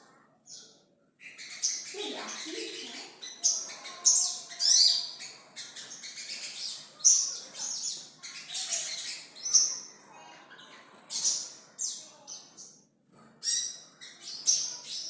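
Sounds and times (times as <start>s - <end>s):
bird chirping song: 0.1s - 15.0s.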